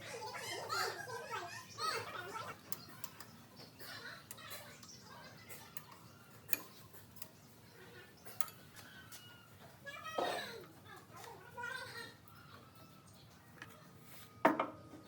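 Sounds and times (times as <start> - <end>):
faint background voices: 0.0 - 15.0.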